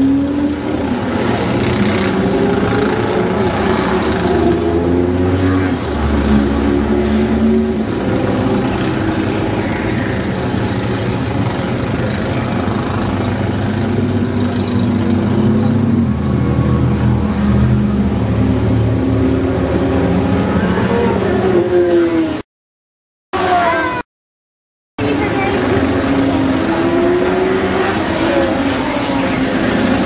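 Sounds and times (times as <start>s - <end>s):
go-kart engines revving: 0.0s - 22.4s, 25.0s - 30.0s.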